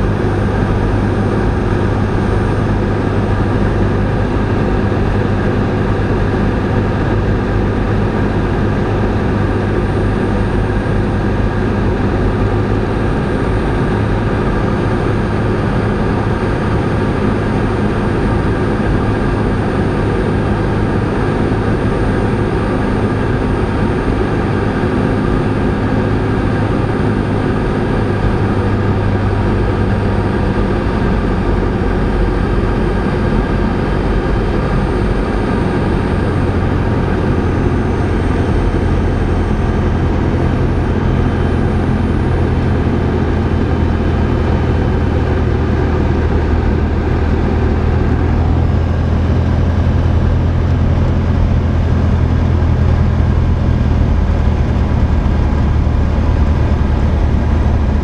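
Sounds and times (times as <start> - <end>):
plane engine droning in cabin: 0.0 - 58.0.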